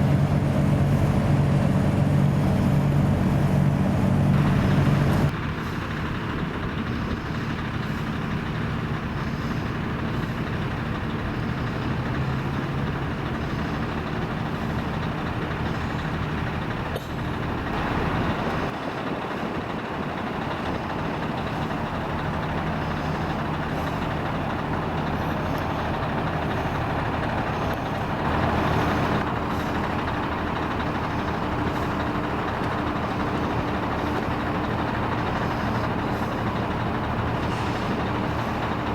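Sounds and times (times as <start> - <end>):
lorry diesel engines: 0.0 - 38.9
traffic noise: 0.0 - 38.9.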